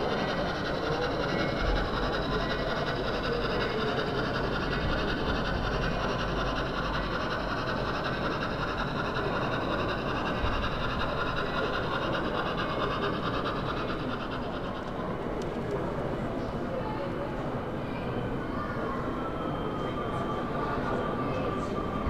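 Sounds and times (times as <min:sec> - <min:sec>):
model train whirring on track: 0:00.0 - 0:22.0.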